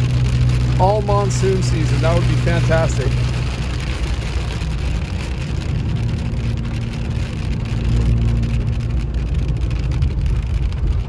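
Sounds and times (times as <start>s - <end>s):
tyres hissing on wet pavement: 0.0s - 9.9s
engine and road noise hum: 0.0s - 11.0s
rain ticking on car: 0.0s - 11.0s.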